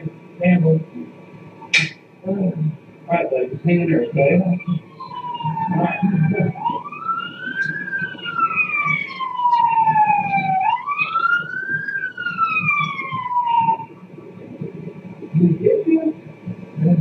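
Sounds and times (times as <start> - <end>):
police siren wailing: 3.2 - 17.0.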